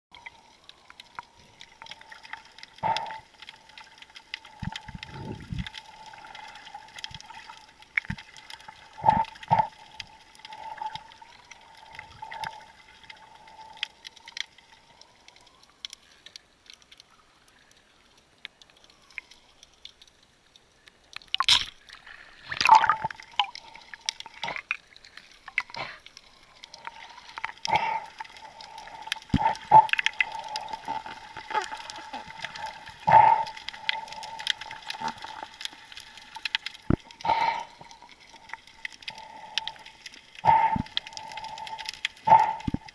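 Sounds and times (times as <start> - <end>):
faint steady hum: 0.1 - 42.9
underwater gurgling and sloshing: 0.1 - 42.9.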